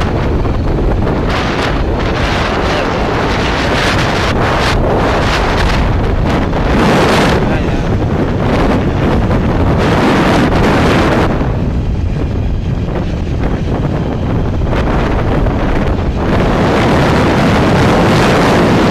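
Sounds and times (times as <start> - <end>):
motorbike running: 0.0 - 18.9
wind buffeting microphone: 0.0 - 18.9.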